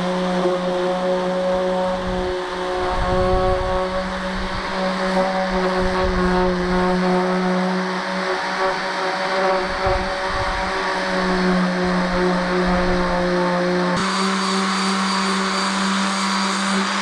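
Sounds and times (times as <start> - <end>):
electric sander motor hum: 0.0 - 17.0.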